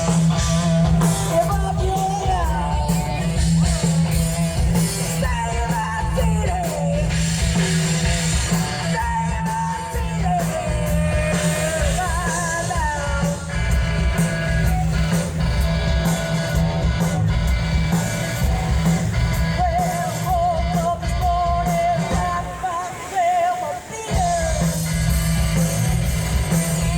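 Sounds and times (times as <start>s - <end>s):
person singing: 0.0s - 15.2s, 18.3s - 26.9s
live rock band playing: 0.0s - 26.9s.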